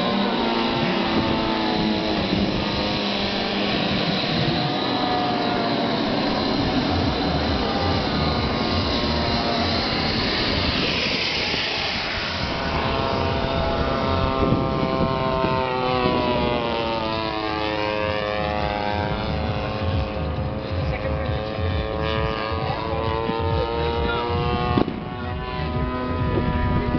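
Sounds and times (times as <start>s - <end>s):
steady low rumble: 0.0s - 26.9s
toy aeroplane motor whining: 0.0s - 26.9s.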